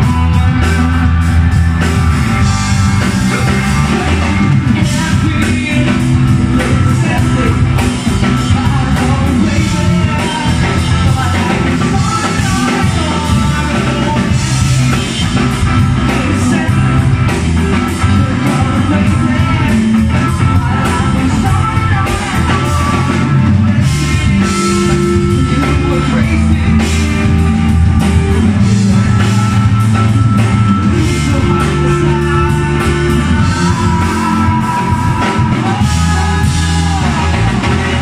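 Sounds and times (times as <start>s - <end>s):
bass guitar: 0.0s - 38.0s
drum kit: 0.0s - 38.0s
electric guitars: 0.0s - 38.0s
person singing: 0.0s - 38.0s.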